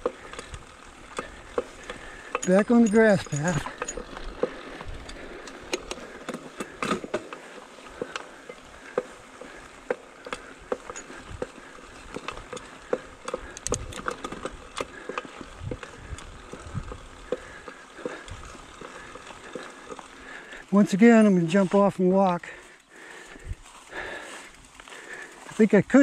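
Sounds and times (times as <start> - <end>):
bike chain clicking and rattling: 0.0 - 26.0
tyres rustling through grass: 0.0 - 26.0.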